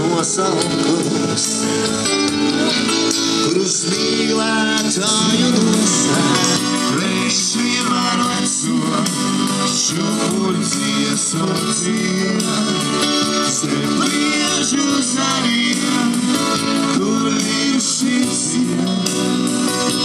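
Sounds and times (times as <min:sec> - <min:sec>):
live band through speakers: 0:00.0 - 0:20.0
person singing: 0:00.0 - 0:20.0.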